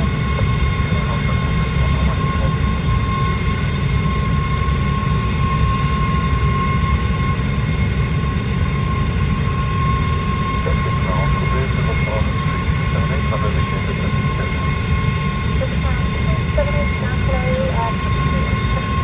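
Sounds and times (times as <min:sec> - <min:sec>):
aircraft engine at full power: 0:00.0 - 0:19.0.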